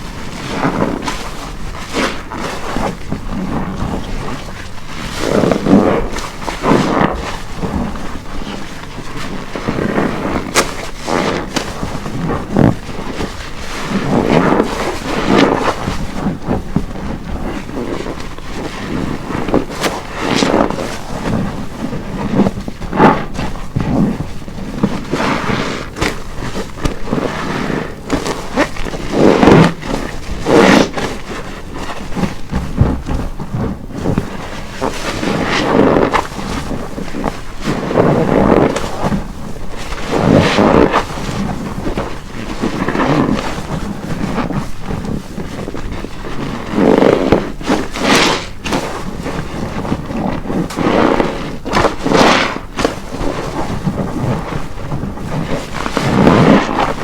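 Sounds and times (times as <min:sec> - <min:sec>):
foamy sponge squelching: 0:00.0 - 0:57.0.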